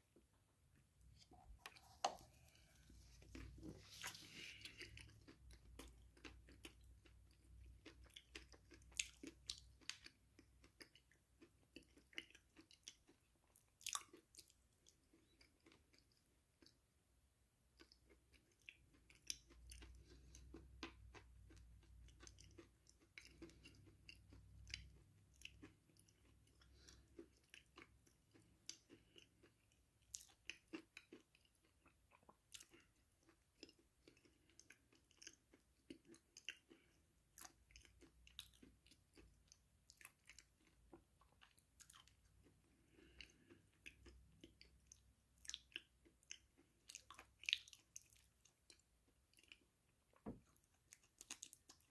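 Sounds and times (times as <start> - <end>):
chewing crunchy food: 1.0 - 16.8, 17.7 - 51.9.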